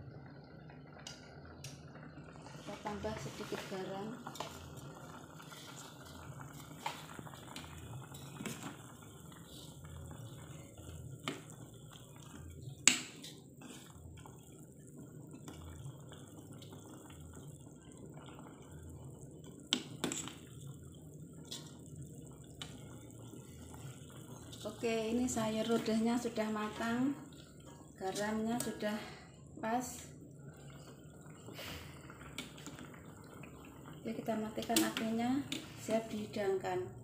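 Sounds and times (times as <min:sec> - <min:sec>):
soup bubbling at a boil: 0:00.0 - 0:37.0.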